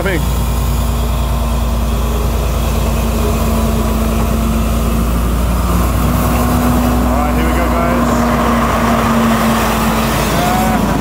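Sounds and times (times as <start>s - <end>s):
train diesel engine humming: 0.0s - 11.0s.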